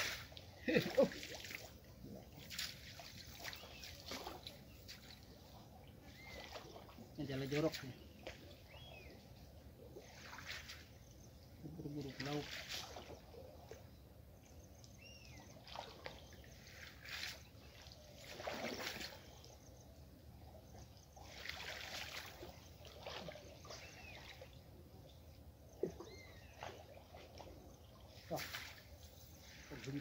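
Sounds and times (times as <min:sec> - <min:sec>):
water splashing and trickling: 0:00.0 - 0:30.0.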